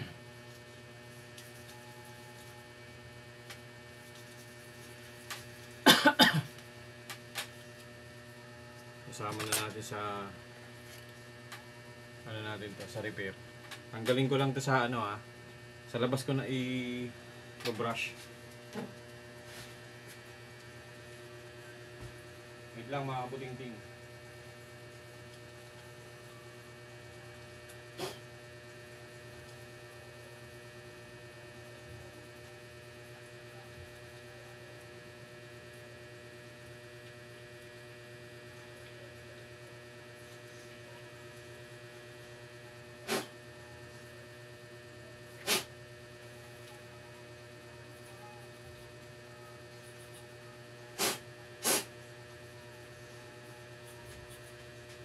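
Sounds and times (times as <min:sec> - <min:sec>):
low mains hum: 0:00.0 - 0:55.0.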